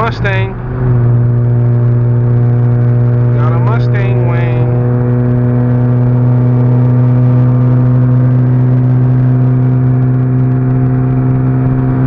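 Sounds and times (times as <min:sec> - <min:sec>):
car engine low drone: 0:00.0 - 0:12.0.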